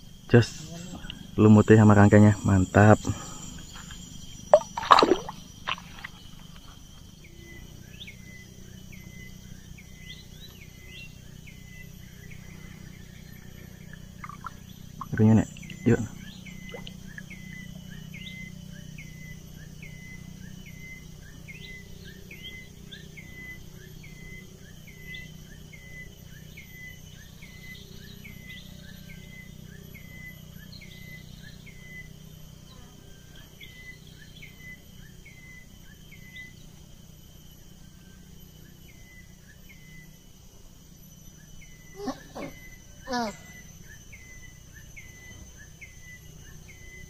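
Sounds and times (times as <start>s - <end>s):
high insect hum: 0.0s - 47.0s.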